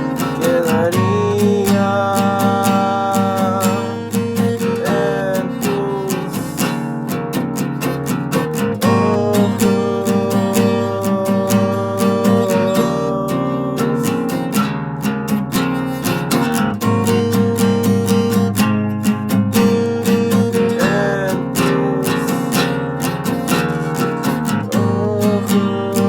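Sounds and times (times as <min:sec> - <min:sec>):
strummed acoustic guitar: 0:00.0 - 0:26.0.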